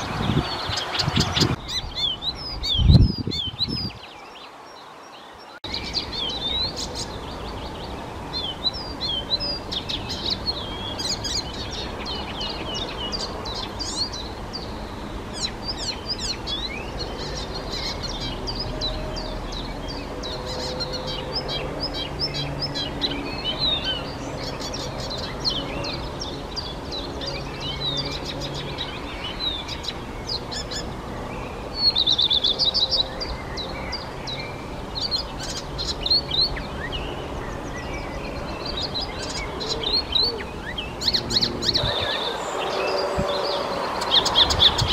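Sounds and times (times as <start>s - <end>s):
warbler singing: 0.0s - 44.9s.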